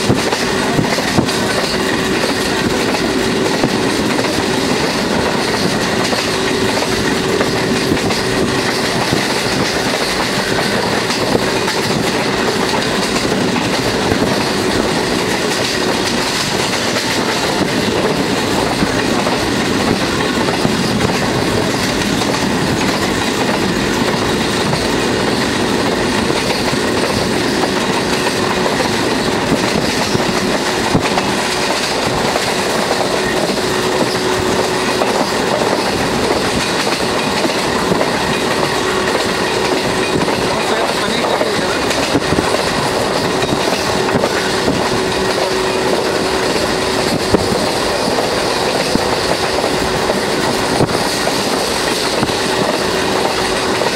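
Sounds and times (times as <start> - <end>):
train running noise: 0.0 - 53.9
wheels clicking over rail joints: 0.0 - 53.9.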